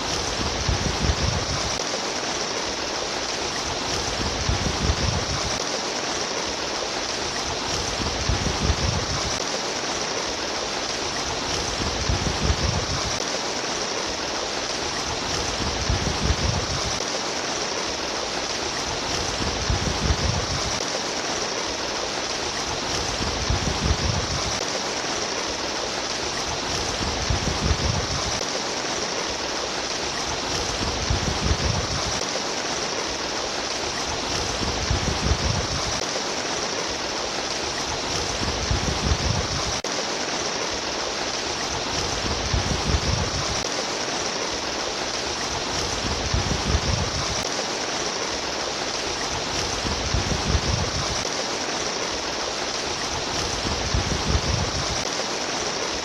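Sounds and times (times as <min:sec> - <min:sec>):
stream babbling and rushing: 0:00.0 - 0:56.0.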